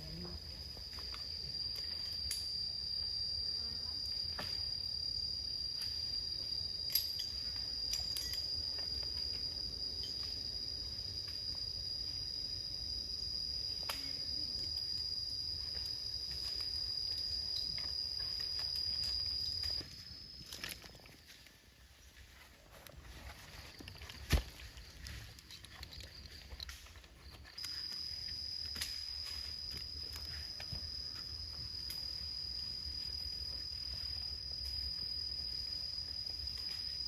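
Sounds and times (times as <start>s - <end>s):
insect calling high tone: 0.0s - 37.0s.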